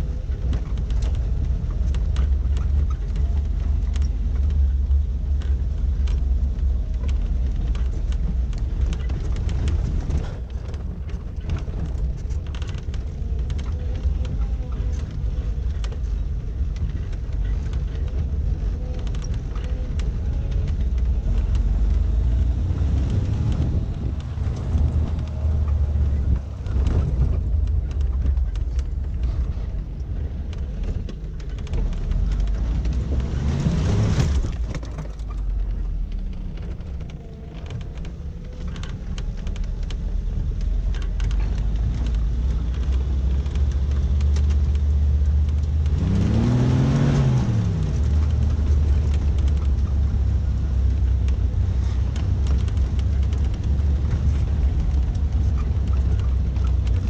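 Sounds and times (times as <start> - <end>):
car engine running: 0.0 - 57.0
rattles and clicks: 0.0 - 57.0.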